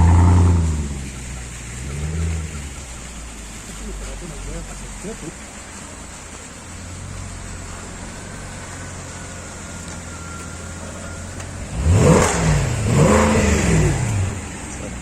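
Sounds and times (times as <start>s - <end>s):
car engine revving: 0.0s - 15.0s
low engine hum: 0.0s - 15.0s.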